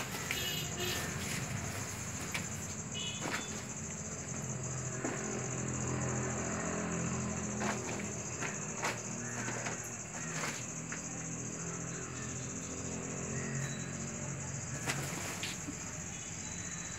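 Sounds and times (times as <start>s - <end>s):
crickets trilling: 0.0s - 16.9s.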